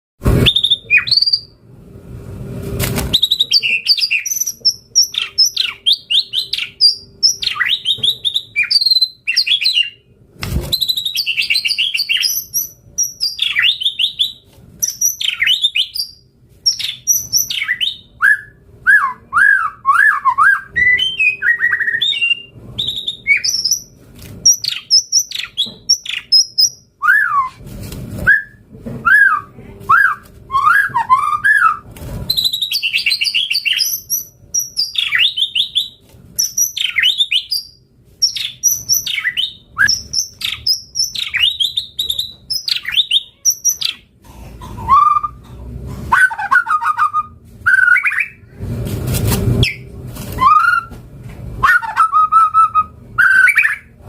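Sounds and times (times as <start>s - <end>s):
bird singing whistles and trills: 0.4s - 1.6s, 3.1s - 10.0s, 10.7s - 27.6s, 28.3s - 44.0s, 46.2s - 48.4s, 51.6s - 53.9s.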